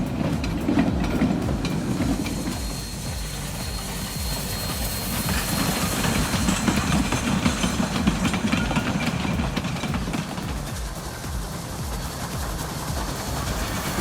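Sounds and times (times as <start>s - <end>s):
steam train wheels rumbling: 0.0s - 14.0s.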